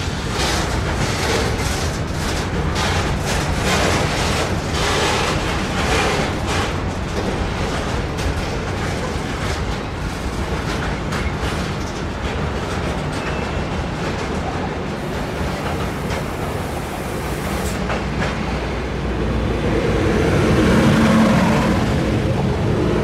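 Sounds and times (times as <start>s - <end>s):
train rumbling along rails: 0.0s - 23.0s
wheels clacking over rail joints: 0.0s - 23.0s.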